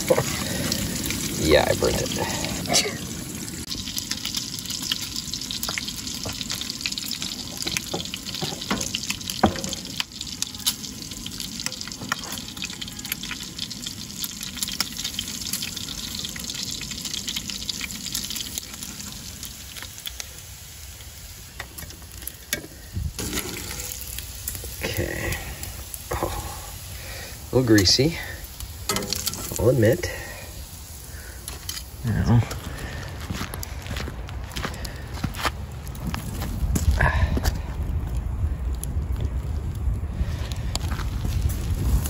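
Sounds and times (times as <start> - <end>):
batter sizzling in frying pan: 0.0 - 37.7, 40.2 - 42.0.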